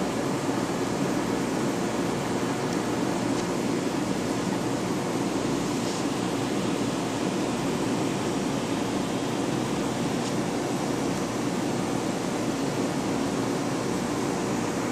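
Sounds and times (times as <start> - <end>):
aquarium pumps humming: 0.0 - 14.9
circulating water: 0.0 - 14.9.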